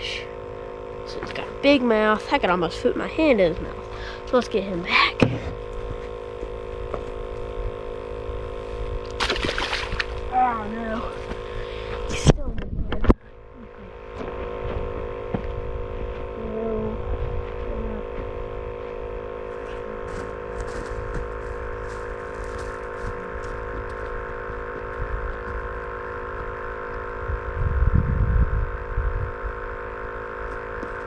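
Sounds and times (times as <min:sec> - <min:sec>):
steady hum of held tones: 0:00.0 - 0:31.0.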